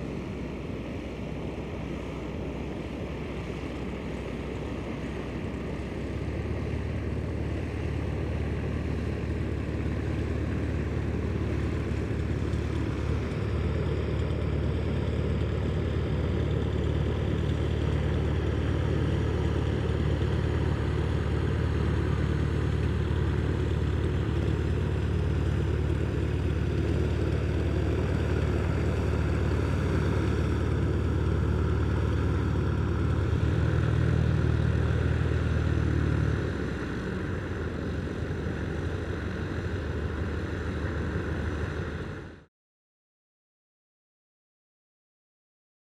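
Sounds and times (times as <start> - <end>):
propeller plane engine running: 0.0 - 42.5.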